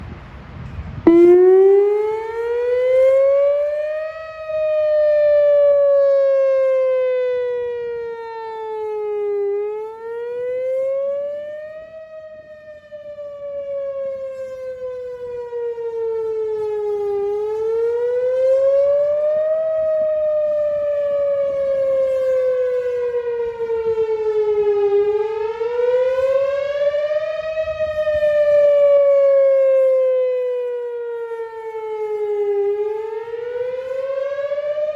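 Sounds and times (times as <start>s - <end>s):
warning siren wailing: 0.0s - 34.9s.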